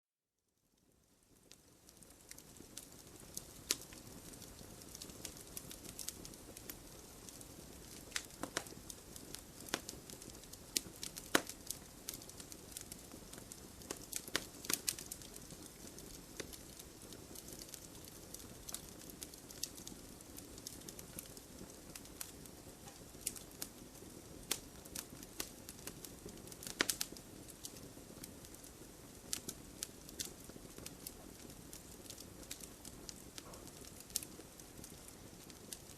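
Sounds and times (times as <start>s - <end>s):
fire crackling and popping: 0.6s - 35.9s
hiss of flames: 1.4s - 35.9s.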